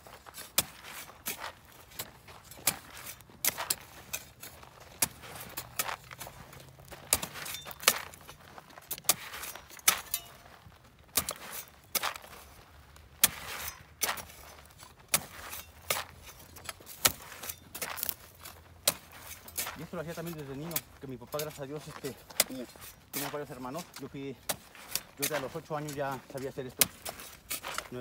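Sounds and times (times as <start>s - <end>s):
spade crunching into soil: 0.0s - 28.0s.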